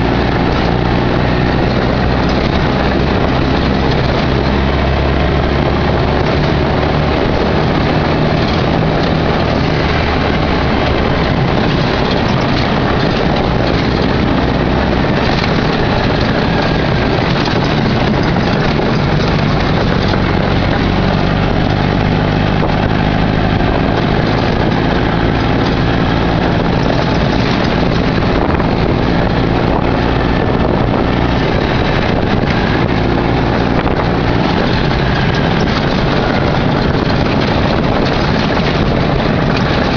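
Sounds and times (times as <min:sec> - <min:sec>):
road noise: 0:00.0 - 0:39.9
sand buggy engine running: 0:00.0 - 0:39.9
wind rush: 0:00.0 - 0:39.9.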